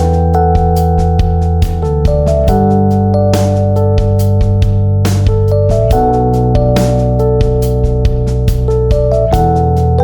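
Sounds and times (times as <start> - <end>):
keyboard and synthesizer music: 0.0 - 10.0.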